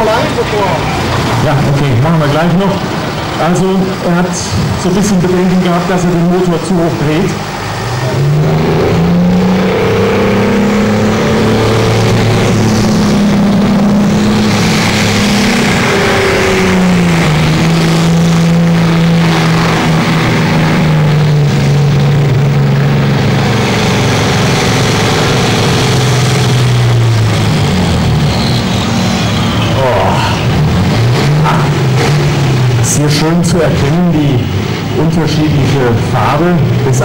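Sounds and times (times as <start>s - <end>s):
diesel engine running hard: 0.0s - 37.0s.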